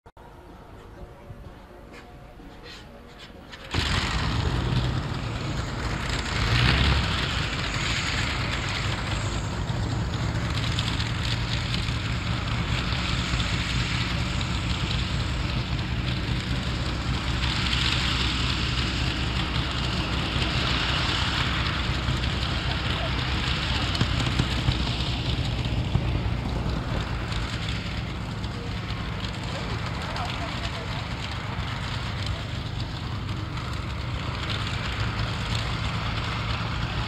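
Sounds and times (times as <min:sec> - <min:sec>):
tractor engine running: 0:03.1 - 0:37.0.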